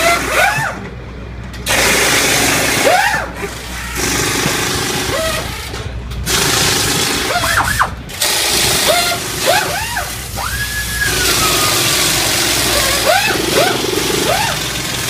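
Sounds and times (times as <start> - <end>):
air guns whining: 1.5 - 15.0
pneumatic air tools hissing: 1.6 - 15.0.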